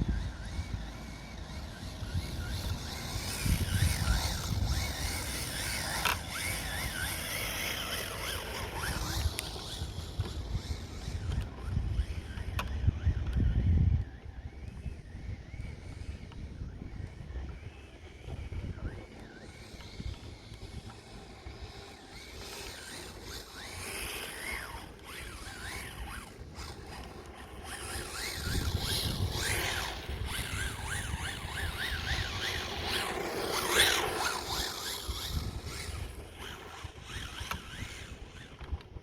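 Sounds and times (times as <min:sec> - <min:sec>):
remote control car motor whine: 0:00.0 - 0:39.0
wind on microphone: 0:00.0 - 0:39.0.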